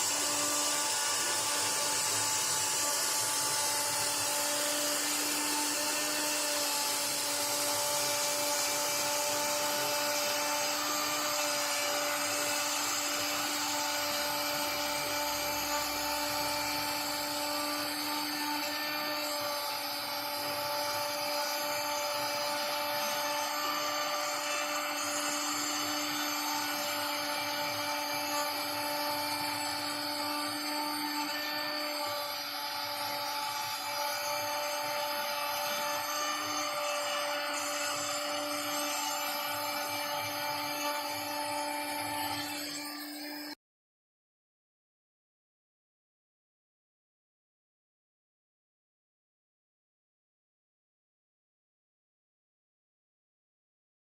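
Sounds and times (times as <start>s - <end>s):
bit cutting into wood: 0.0s - 43.6s
router spindle whine: 0.0s - 43.6s.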